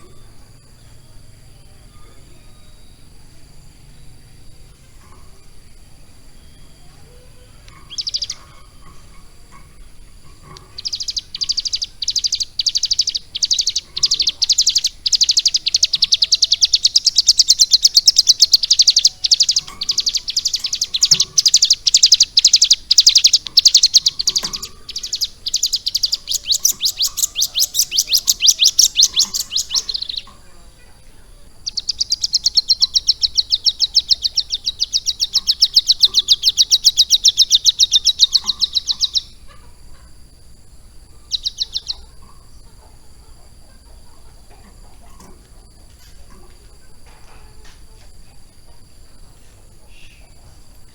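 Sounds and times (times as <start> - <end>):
bird singing chattering song: 0.0 - 50.9.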